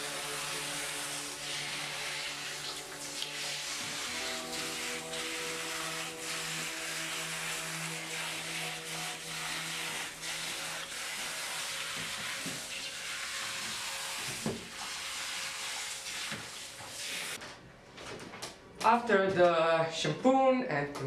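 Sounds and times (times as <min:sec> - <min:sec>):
shower head spraying water: 0:00.0 - 0:17.4.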